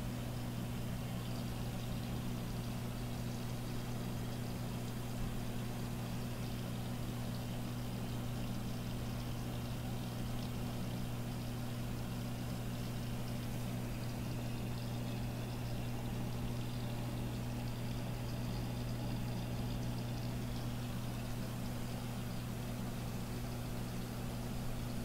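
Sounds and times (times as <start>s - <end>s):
aquarium equipment humming: 0.0s - 25.0s
water trickling: 0.0s - 25.0s.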